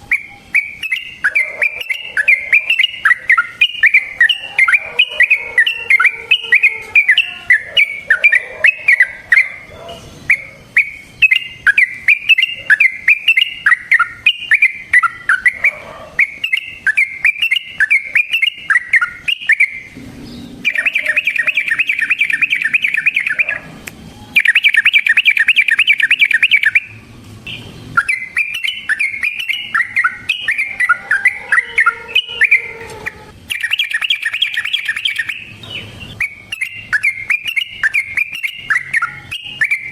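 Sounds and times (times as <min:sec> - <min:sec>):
bulbul singing chattering notes: 0:00.0 - 0:09.6, 0:10.2 - 0:39.9.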